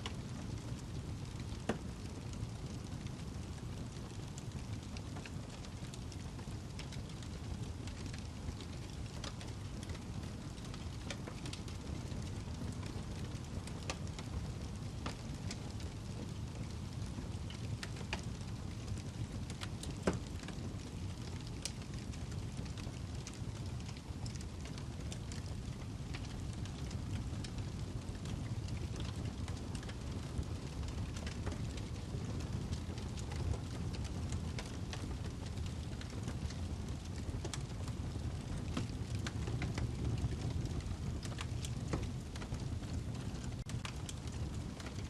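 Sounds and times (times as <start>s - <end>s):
burning log crackling and popping: 0.0s - 45.0s
flames rushing: 0.0s - 45.0s.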